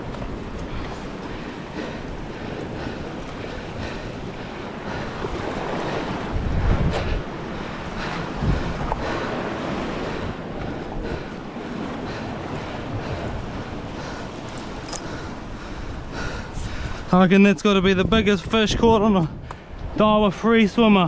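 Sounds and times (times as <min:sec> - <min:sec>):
wind buffeting microphone: 0:00.0 - 0:20.8
sea waves washing on shore: 0:00.0 - 0:21.0.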